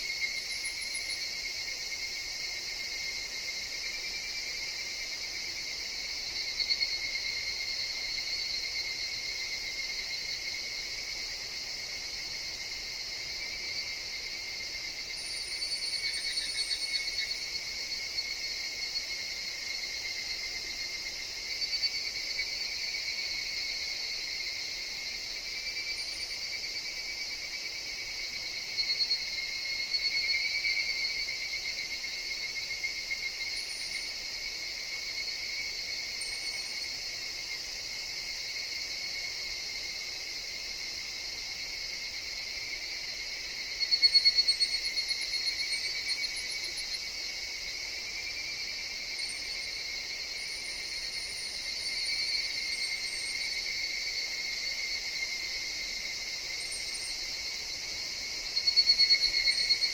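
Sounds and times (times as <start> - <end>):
cicadas ringing drone: 0.0 - 59.9.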